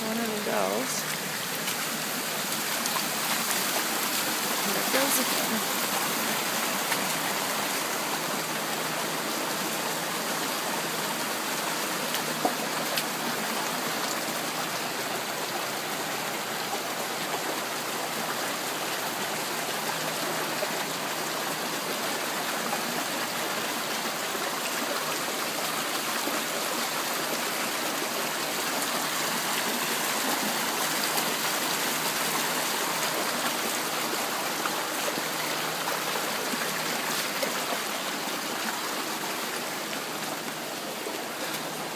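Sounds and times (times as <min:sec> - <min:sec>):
floodwater rushing: 0:00.0 - 0:41.9.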